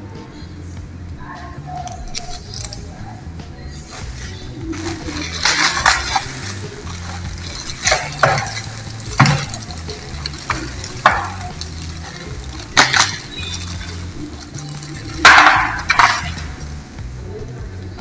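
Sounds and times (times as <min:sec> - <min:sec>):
plastic film crinkling: 0:01.8 - 0:03.1, 0:03.7 - 0:17.2.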